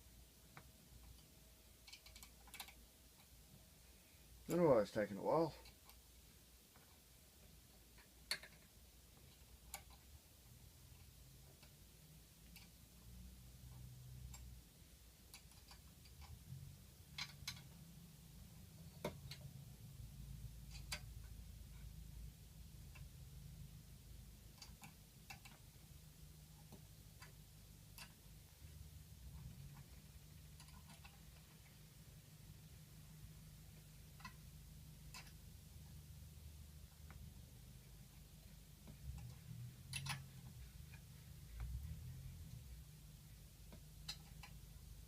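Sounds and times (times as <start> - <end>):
faint low hum: 0.0 - 45.0
light clicks and ticks: 0.5 - 3.4, 6.7 - 17.9, 18.5 - 36.0, 36.8 - 45.0.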